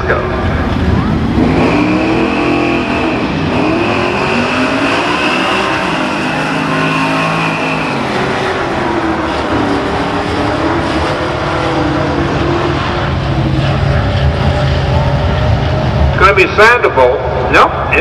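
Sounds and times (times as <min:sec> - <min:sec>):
drag cars accelerating full throttle: 0:00.0 - 0:18.0.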